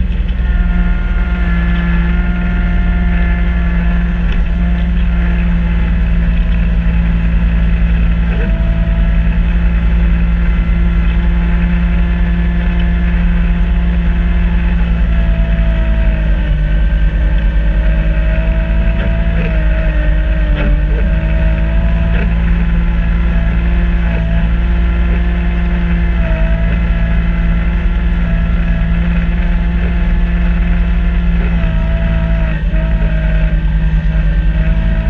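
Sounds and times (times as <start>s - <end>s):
faint wavering whine: 0.0s - 35.0s
tractor diesel engine running: 0.0s - 35.0s.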